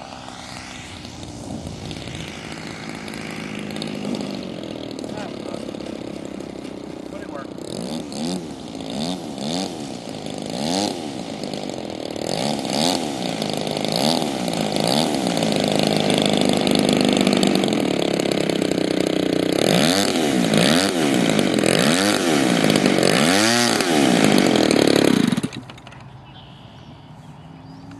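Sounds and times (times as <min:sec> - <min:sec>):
model plane engine passing by: 0:00.0 - 0:26.2.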